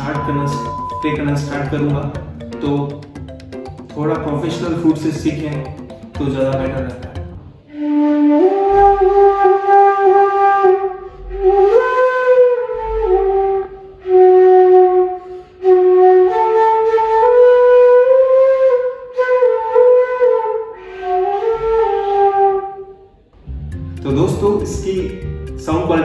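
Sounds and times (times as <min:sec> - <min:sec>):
bamboo flute melody: 0:00.0 - 0:23.1.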